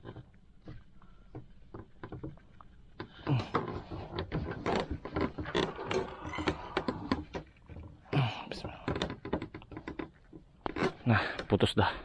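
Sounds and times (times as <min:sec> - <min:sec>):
handling knocks and rustling: 0:00.0 - 0:12.0.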